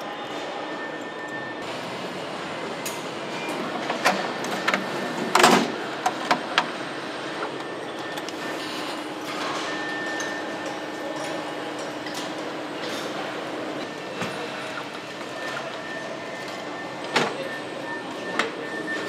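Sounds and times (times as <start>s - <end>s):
factory machinery din: 0.0s - 19.0s.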